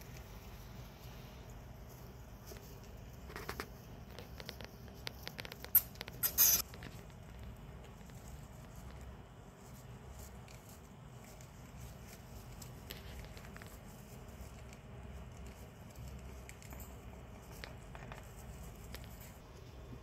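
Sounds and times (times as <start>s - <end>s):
hamsters rustling in bedding: 0.0s - 20.0s
low steady hum: 0.0s - 20.0s.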